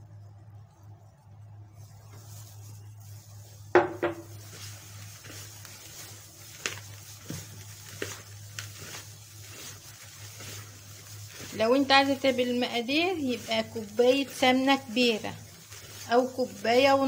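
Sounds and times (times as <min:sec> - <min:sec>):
hands rubbing dough: 0:00.0 - 0:17.0
steady low hum: 0:00.0 - 0:17.0.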